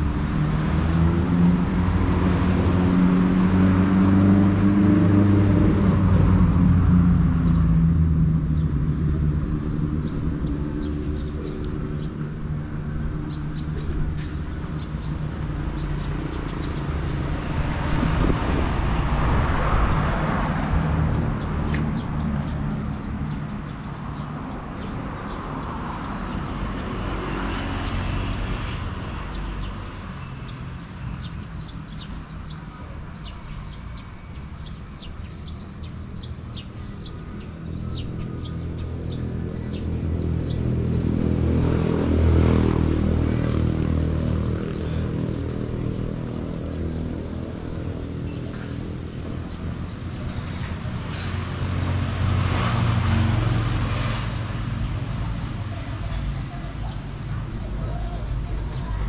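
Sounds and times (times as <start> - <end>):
cars passing: 0.0 - 59.0
traffic rumble: 0.0 - 59.0.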